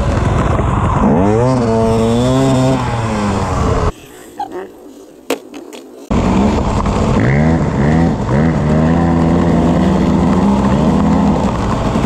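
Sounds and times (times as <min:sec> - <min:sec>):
motorcycle engine revving: 0:00.0 - 0:03.9, 0:06.1 - 0:12.0.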